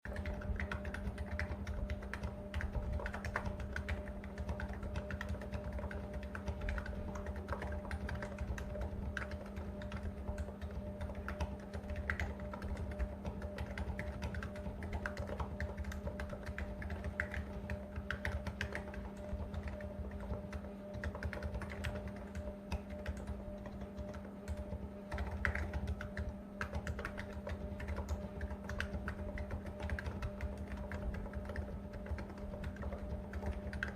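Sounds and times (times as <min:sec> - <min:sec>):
faint hum: 0:00.0 - 0:33.9
keyboard typing: 0:00.1 - 0:33.9.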